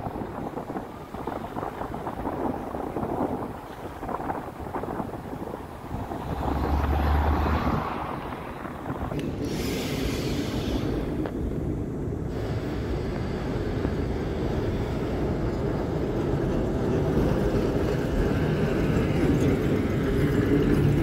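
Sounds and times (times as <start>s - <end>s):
tram running on street rails: 0.0s - 21.0s.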